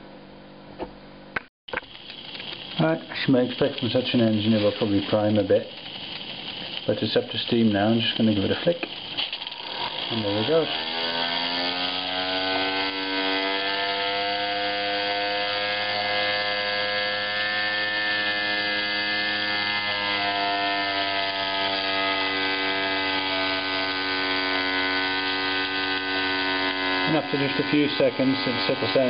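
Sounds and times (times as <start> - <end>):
small steam engine whirring: 1.7 - 29.0.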